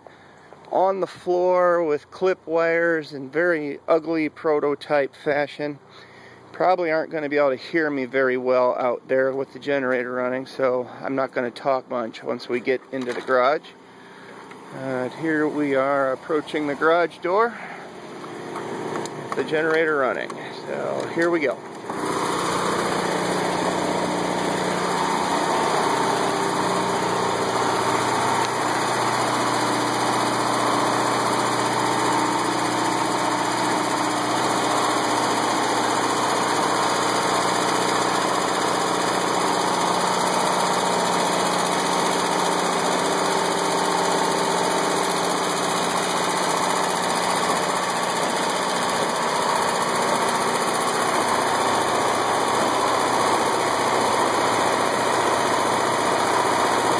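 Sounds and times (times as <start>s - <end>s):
generator running: 0.0s - 4.2s, 12.6s - 56.9s.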